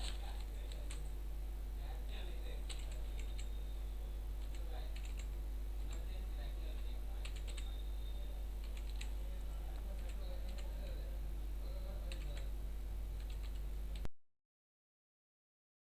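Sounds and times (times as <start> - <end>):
keyboard typing: 0.0 - 1.2, 2.0 - 14.1
low electrical hum: 0.0 - 14.1.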